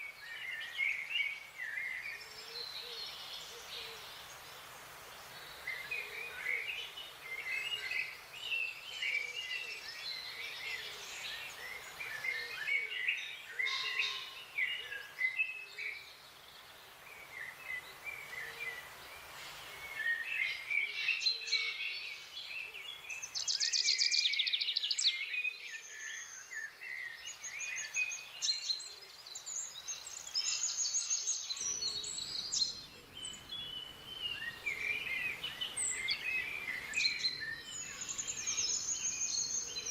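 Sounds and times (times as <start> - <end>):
birds chirping and singing: 0.1 - 39.9.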